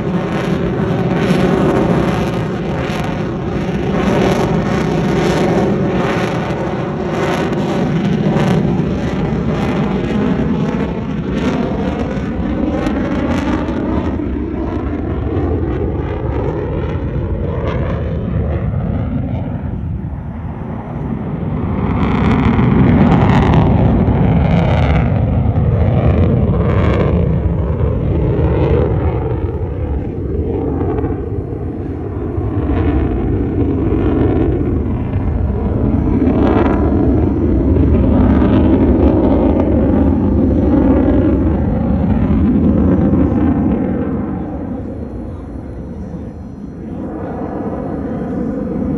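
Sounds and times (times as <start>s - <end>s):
jet engine roar: 0.0s - 48.9s.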